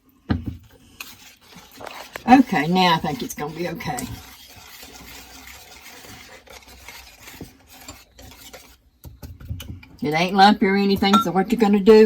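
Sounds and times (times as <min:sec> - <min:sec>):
whisk stirring batter: 0:00.5 - 0:12.0.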